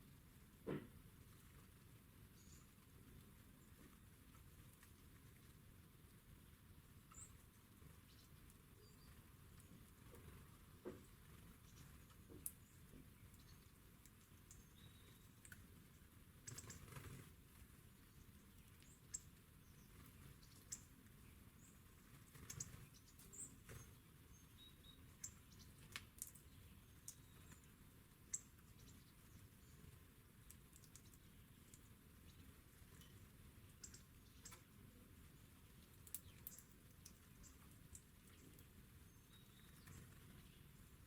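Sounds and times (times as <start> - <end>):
birds pecking seeds: 0.0 - 41.0.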